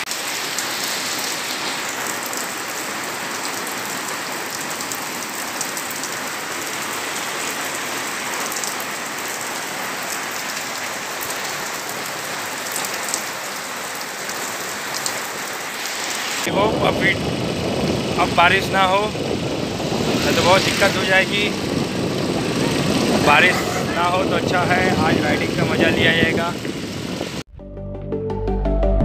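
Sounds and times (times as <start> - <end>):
rain on concrete: 0.0 - 27.4.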